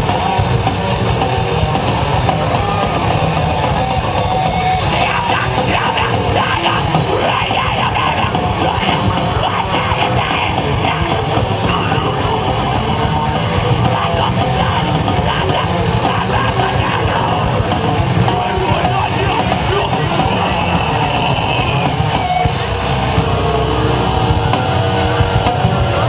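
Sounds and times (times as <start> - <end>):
heavy rock band playing: 0.0 - 26.0.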